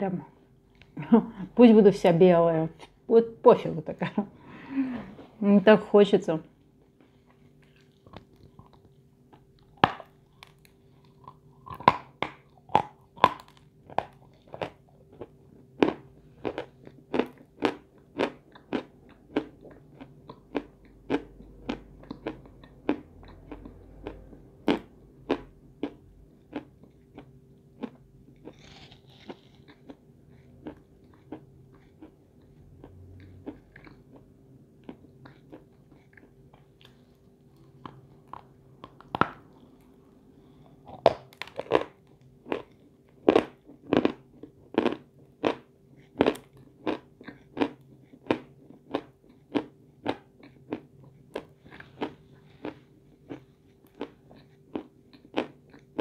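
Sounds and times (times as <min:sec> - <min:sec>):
chewing chalk crunches: 0:07.0 - 0:40.0, 0:40.8 - 0:56.0.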